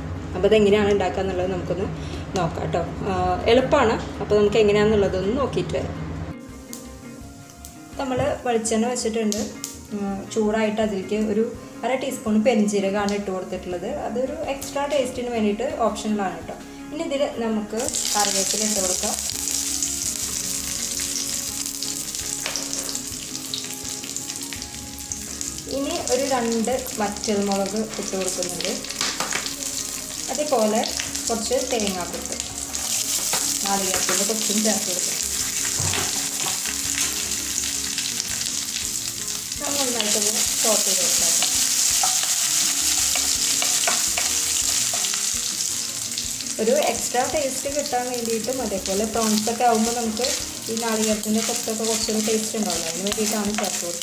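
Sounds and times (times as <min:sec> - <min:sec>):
leaves sizzling in hot oil: 0:06.4 - 0:15.0, 0:17.7 - 0:54.0.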